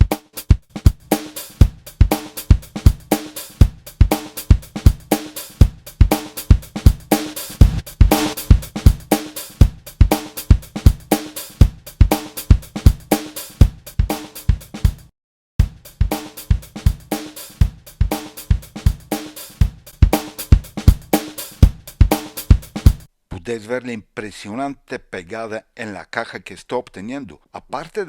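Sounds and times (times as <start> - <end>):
funk drum kit loop: 0.0 - 23.1.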